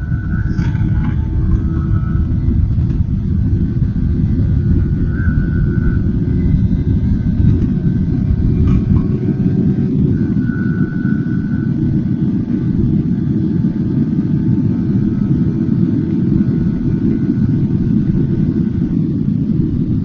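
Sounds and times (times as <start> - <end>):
motorcycle engine hum: 0.0 - 20.0
wind rumble on microphone: 0.0 - 20.0.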